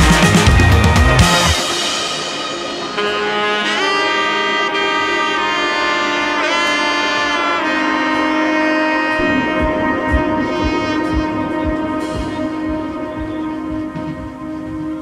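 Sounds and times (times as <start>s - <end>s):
horn-like melody with sliding notes: 0.0s - 15.0s.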